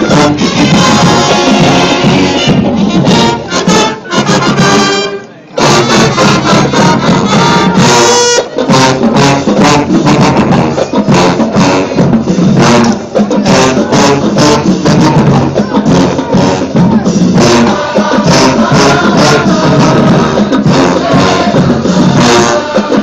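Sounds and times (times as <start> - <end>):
brass chords: 0.0 - 23.0
drums and percussion: 0.0 - 23.0.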